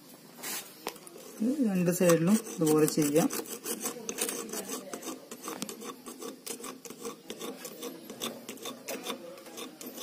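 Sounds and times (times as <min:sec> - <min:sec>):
hacksaw scraping metal: 0:01.8 - 0:10.0.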